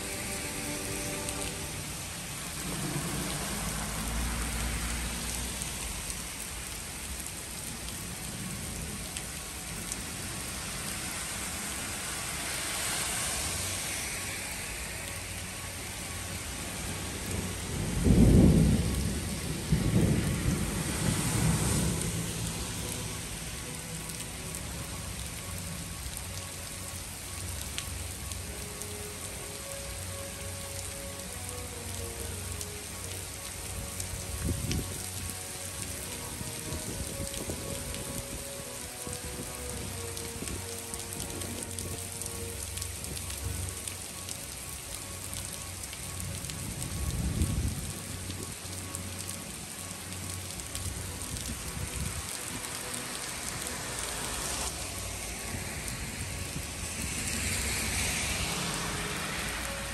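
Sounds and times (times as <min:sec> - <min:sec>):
heavy rain on asphalt: 0:00.0 - 0:59.9.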